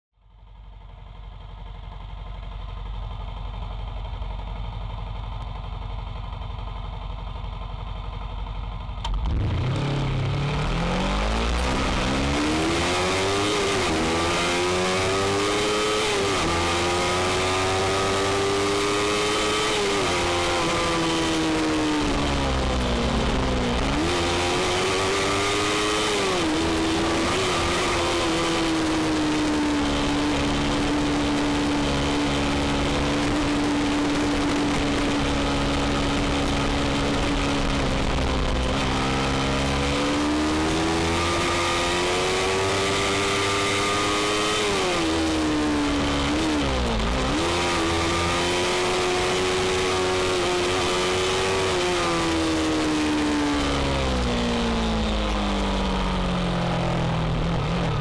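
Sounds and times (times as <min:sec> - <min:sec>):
motorcycle engine revving: 0:00.3 - 0:58.0.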